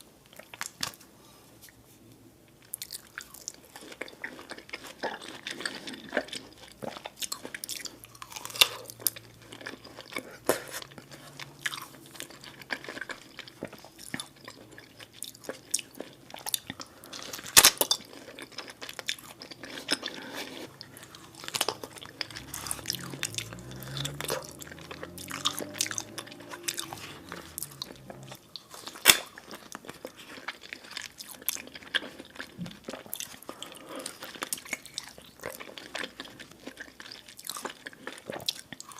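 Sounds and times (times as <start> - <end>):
person chewing food: 2.5 - 38.9.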